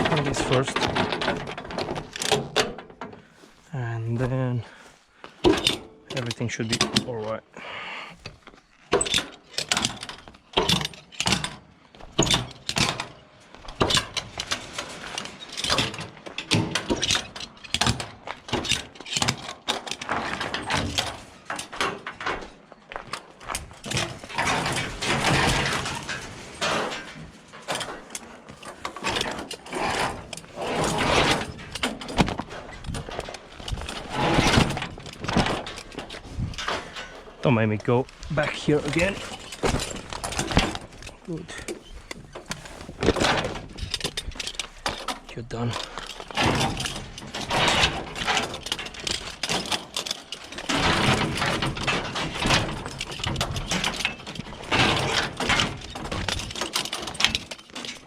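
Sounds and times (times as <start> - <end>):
metal hardware clanking and rattling: 0.0 - 7.5, 8.2 - 58.0.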